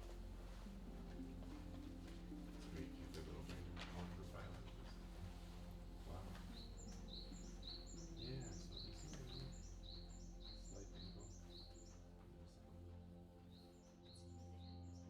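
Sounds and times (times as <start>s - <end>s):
low steady hum: 0.0s - 15.0s
songbird chirping: 0.0s - 15.0s.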